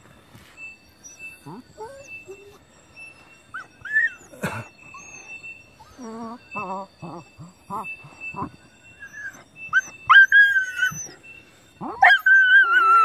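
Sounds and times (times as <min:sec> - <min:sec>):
dog whining: 0:00.6 - 0:13.0.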